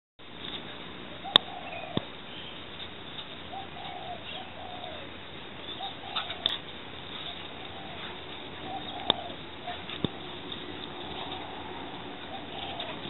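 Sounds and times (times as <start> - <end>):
steady background noise: 0.2 - 13.0
bird cooing: 1.1 - 2.1, 3.4 - 13.0.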